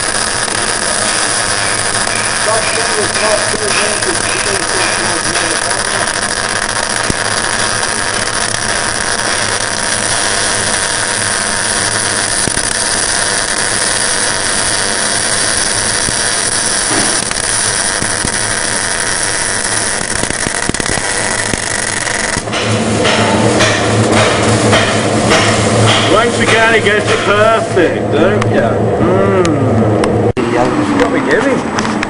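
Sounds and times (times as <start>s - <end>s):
arc welding hiss: 0.0s - 27.5s.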